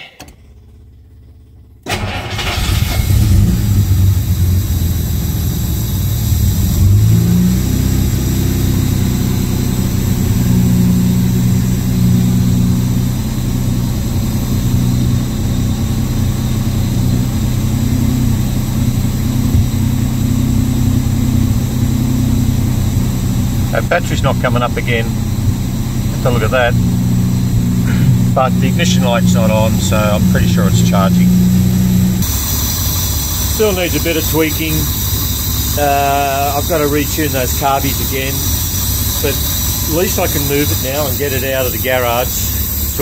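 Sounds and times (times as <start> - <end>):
car engine starting and running: 0.0 - 43.0.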